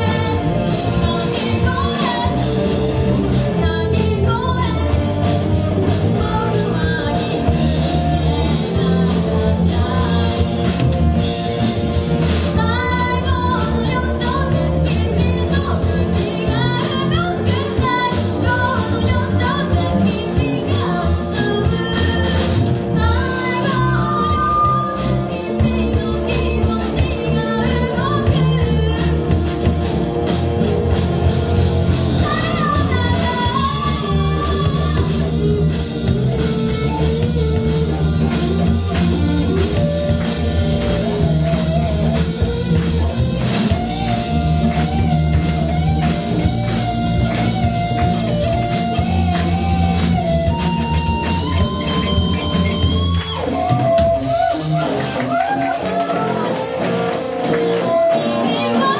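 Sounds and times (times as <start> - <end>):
person singing: 0.0 - 10.8, 12.3 - 29.8, 31.9 - 55.0, 55.9 - 58.9
bass: 0.0 - 58.9
drum kit: 0.0 - 58.9
guitar: 0.0 - 58.9.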